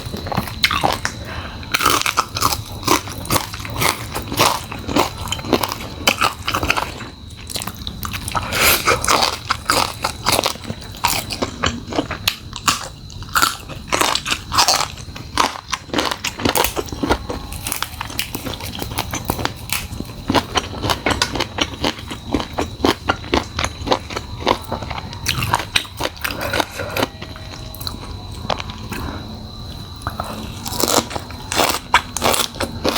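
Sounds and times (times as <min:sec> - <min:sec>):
chewing crunchy food: 0:00.0 - 0:32.9.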